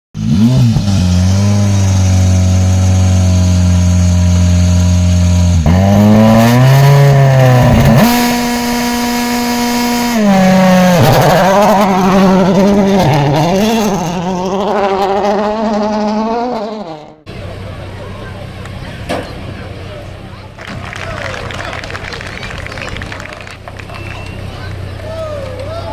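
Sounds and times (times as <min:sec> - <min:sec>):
rally car engine revving: 0:00.2 - 0:25.9.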